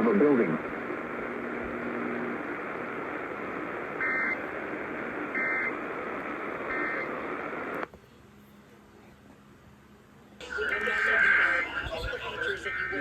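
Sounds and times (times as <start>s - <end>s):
radio hiss: 0.0s - 8.0s, 10.4s - 13.0s.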